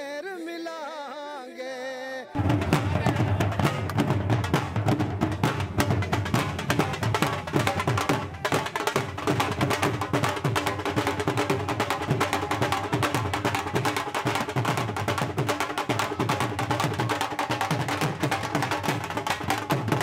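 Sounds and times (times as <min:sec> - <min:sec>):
drums beaten in fast rhythm: 0:02.4 - 0:20.0.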